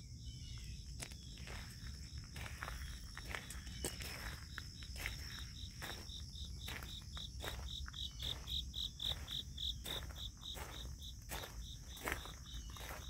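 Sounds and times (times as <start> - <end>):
insect chirping: 0.0 - 13.0
footsteps on gravel: 0.6 - 13.0.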